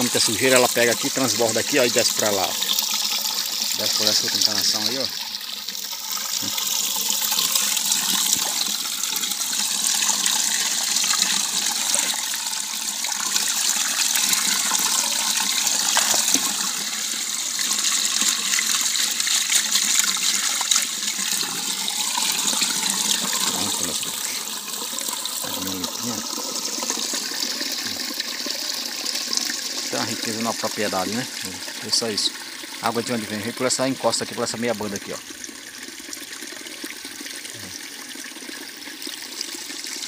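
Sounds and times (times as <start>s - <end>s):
water pouring into barrel: 0.0s - 40.0s.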